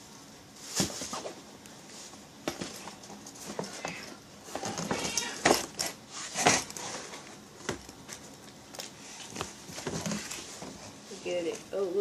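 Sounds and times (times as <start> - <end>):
scraping rustles: 0.5 - 11.9
rustling while rummaging: 0.5 - 12.0.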